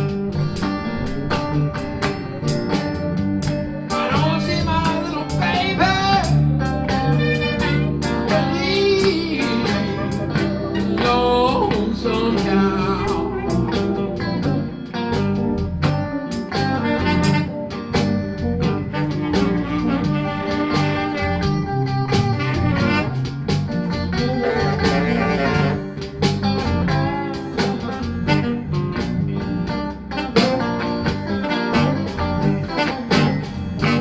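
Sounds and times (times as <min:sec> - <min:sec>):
electric blues band playing: 0:00.0 - 0:34.0.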